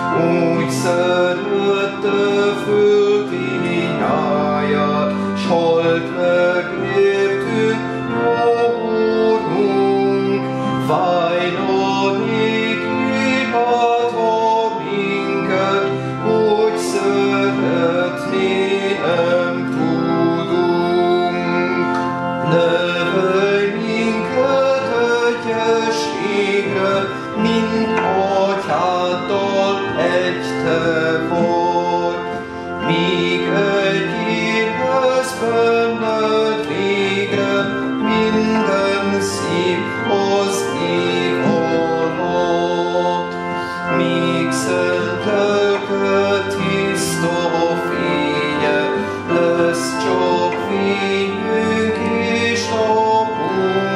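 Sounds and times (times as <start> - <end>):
organ playing slow chords: 0.0 - 53.9
voices singing a hymn: 0.0 - 53.9.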